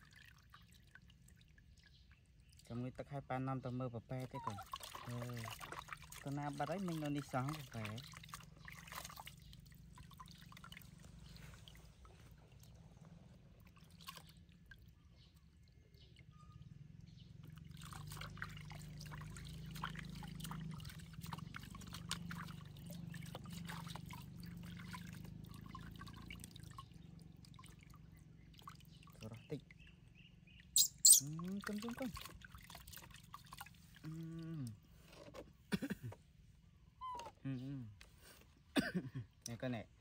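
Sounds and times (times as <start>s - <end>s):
water trickling and dripping: 0.0s - 34.8s
small drips and splashes: 0.0s - 40.0s.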